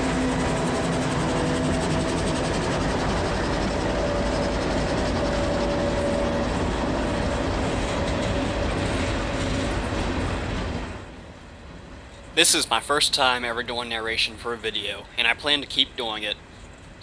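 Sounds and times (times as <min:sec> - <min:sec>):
freight train cars rolling past: 0:00.0 - 0:17.0.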